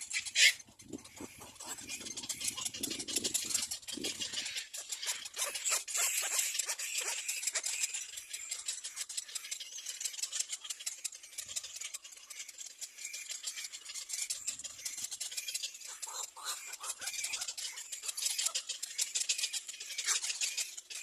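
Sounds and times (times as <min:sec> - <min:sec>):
nestling birds begging: 0:00.0 - 0:21.0.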